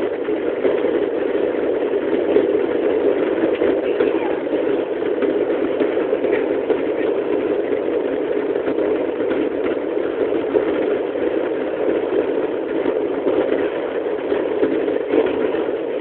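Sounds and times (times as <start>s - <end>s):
jet engine roar in cabin: 0.0s - 16.0s.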